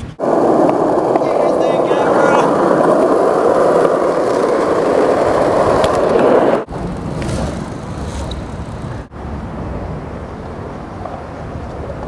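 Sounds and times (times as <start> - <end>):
loud rushing noise: 0.0 - 10.6
road traffic rumble: 0.0 - 12.0.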